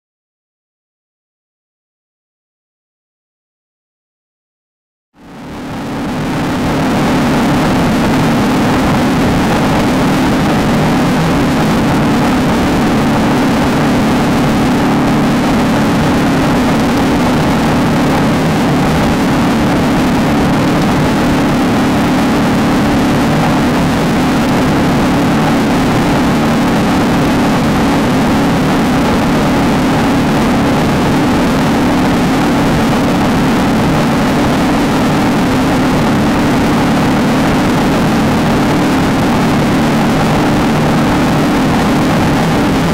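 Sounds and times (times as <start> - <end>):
race car engine running hard: 5.2 - 42.9
rushing noise: 5.2 - 42.9.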